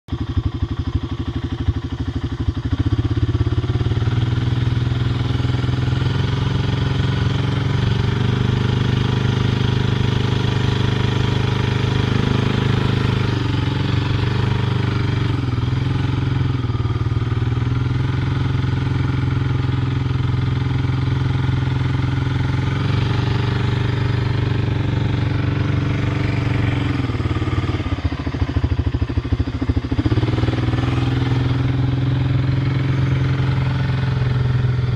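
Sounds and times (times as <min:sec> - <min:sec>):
engine running steadily: 0:00.1 - 0:34.9.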